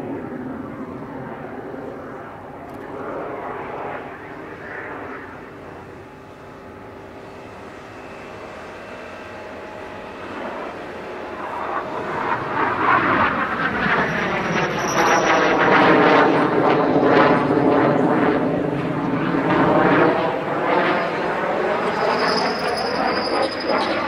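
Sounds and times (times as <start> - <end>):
jet flying past: 0.0 - 24.0.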